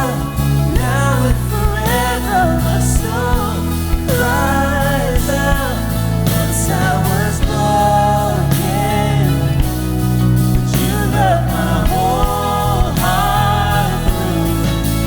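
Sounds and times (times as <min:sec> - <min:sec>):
person singing: 0:00.0 - 0:15.0
sustained low instrumental chords: 0:00.0 - 0:15.0.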